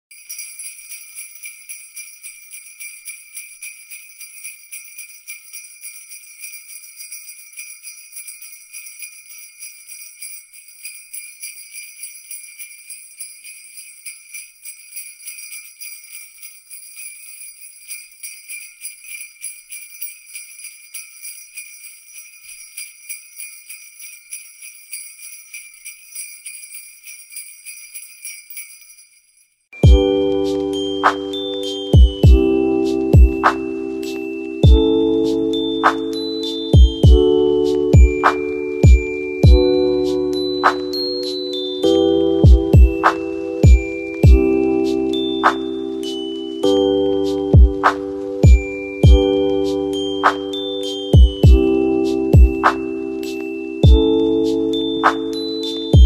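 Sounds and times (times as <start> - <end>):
sleigh bells jingling: 0.0 - 56.0.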